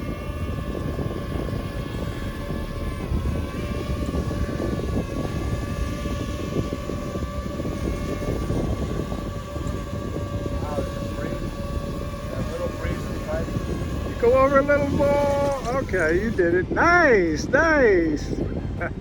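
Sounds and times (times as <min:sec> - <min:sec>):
drone propellers whining: 0:00.0 - 0:19.0
low rumble: 0:00.0 - 0:19.0.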